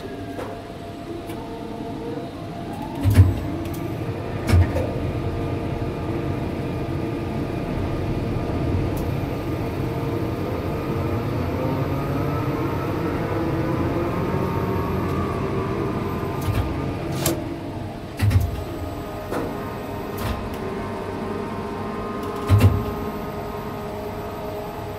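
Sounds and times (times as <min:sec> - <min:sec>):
crane motors humming and whining: 0:00.0 - 0:24.9.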